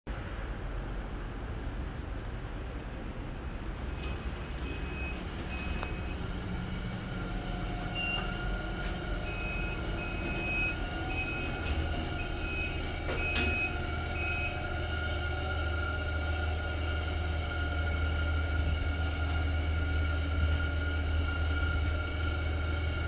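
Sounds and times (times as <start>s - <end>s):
lift low rumble: 0.1s - 23.0s
steady whine: 0.4s - 23.0s.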